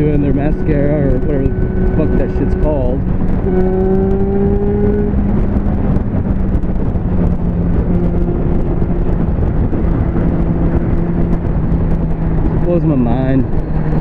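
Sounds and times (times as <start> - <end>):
motorcycle engine cruising: 0.0 - 14.0
wind rushing over microphone: 0.0 - 14.0.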